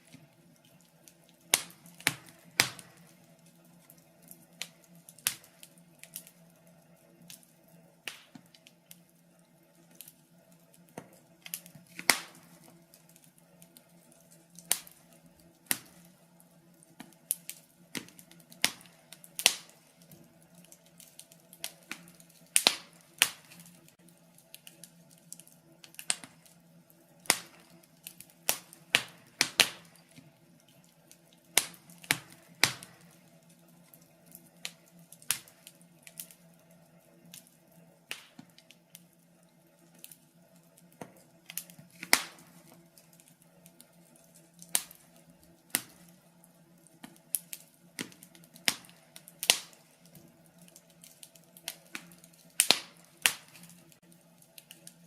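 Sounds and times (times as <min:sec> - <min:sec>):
faint steady hum: 0:00.0 - 0:55.0
wood fire crackling: 0:00.0 - 0:55.0.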